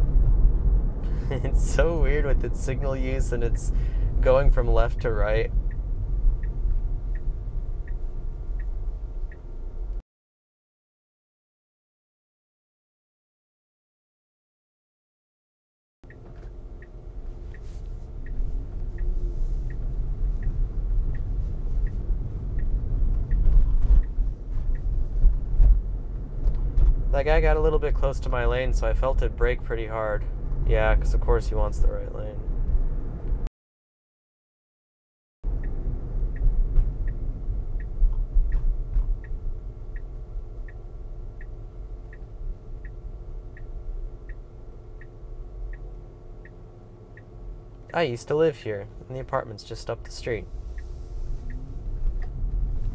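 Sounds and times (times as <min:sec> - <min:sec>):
road and tyre rumble: 0:00.0 - 0:10.0, 0:16.1 - 0:33.5, 0:35.5 - 0:52.9
turn signal ticking: 0:00.0 - 0:10.0, 0:16.0 - 0:33.5, 0:35.5 - 0:52.9.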